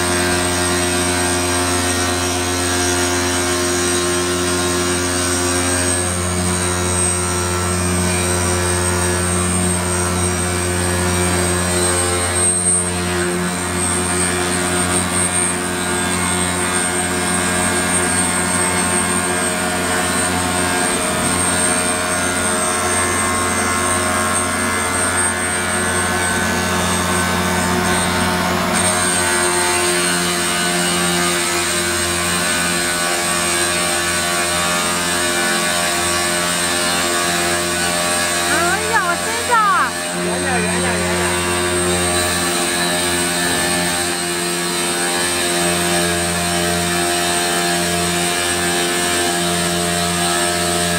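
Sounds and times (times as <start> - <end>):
stone grinding machine humming: 0.0 - 50.9.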